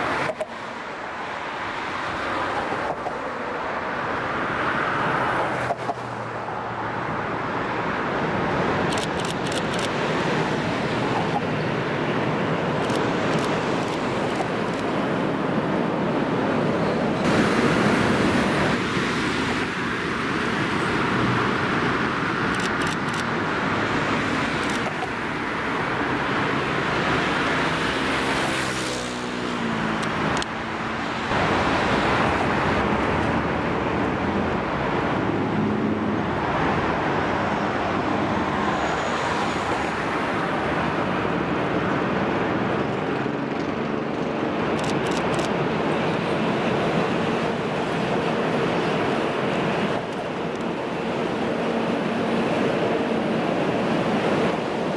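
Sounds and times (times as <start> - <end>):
road traffic: 0.0 - 54.9.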